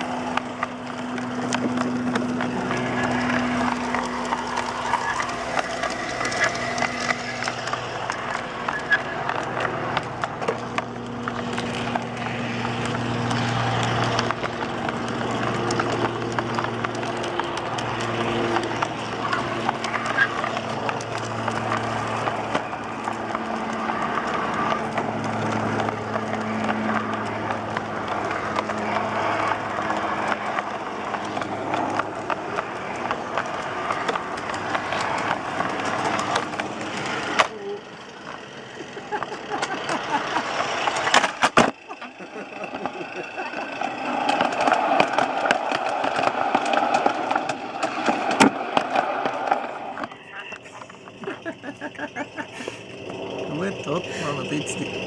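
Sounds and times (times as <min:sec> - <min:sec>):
electric motor and gear hum: 0:00.0 - 0:55.0
wheels clicking on rails: 0:00.0 - 0:55.0.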